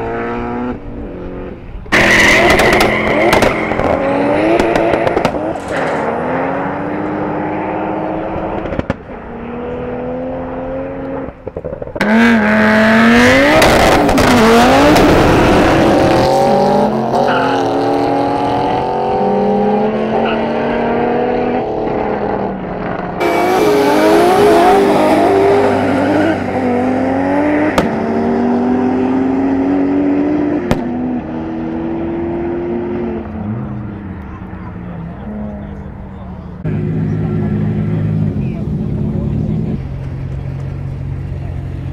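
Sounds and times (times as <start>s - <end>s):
drag race cars accelerating: 0.0s - 41.9s.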